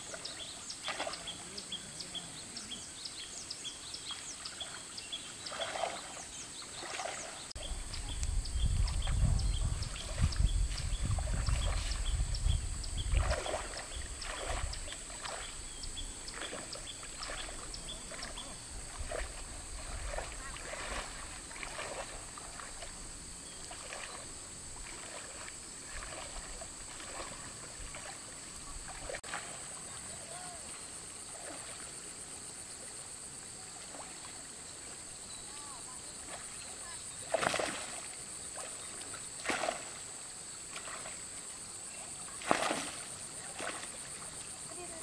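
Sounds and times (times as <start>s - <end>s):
water splashing and sloshing: 0.0s - 1.8s, 4.0s - 45.0s.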